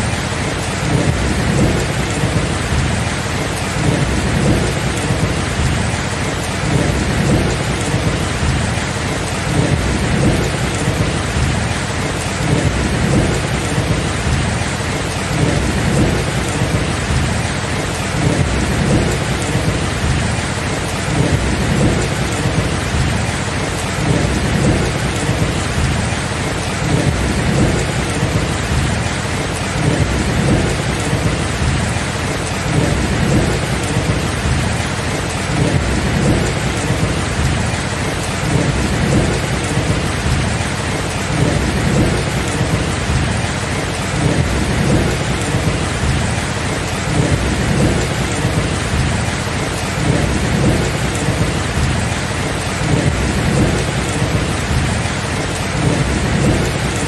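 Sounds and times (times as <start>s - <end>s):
steady rain: 0.0s - 57.0s
low rumble of thunder: 0.1s - 57.0s.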